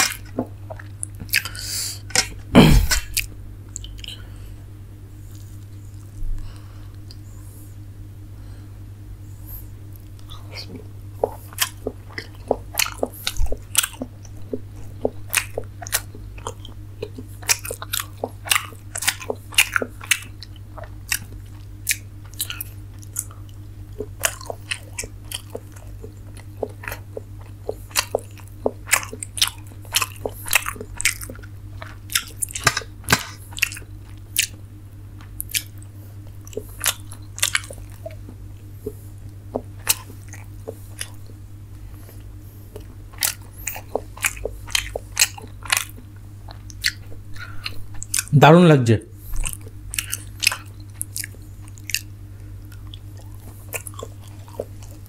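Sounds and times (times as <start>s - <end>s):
wet chewing mouth smacks: 0.0s - 4.2s, 10.0s - 34.6s, 35.2s - 41.4s, 42.0s - 48.3s, 49.3s - 55.0s
steady low hum: 0.0s - 55.0s.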